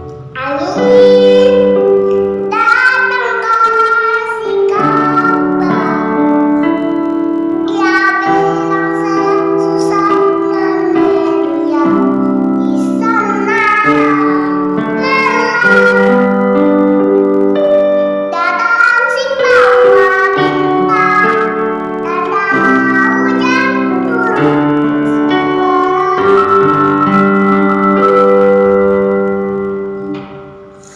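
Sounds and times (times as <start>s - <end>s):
girl singing: 0.0s - 30.1s
instrumental backing music: 0.0s - 30.9s.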